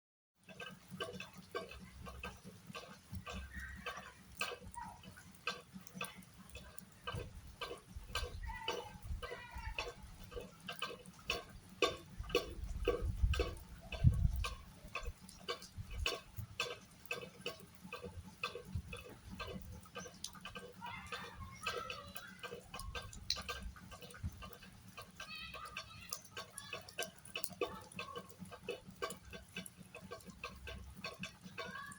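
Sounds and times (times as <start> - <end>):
rain drops plinking: 0.4 - 31.9.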